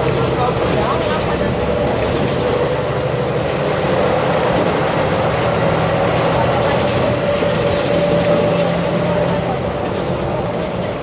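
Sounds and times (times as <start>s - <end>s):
bus engine droning: 0.0s - 11.0s
high engine whine: 0.0s - 11.0s.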